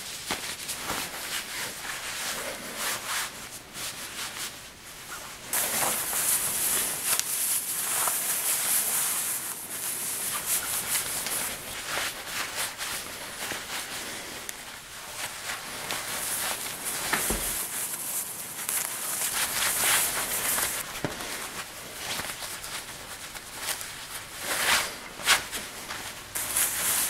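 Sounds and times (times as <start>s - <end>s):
fabric rustling: 0.0s - 27.0s.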